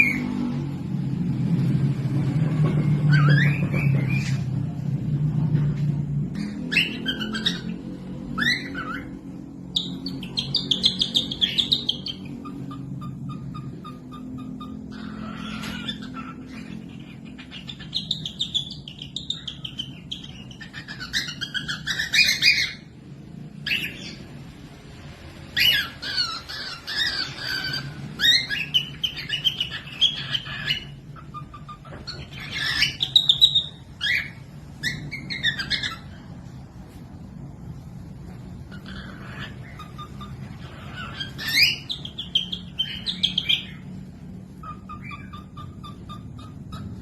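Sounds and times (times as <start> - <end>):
parrots chirping and squawking: 0.0 - 47.0.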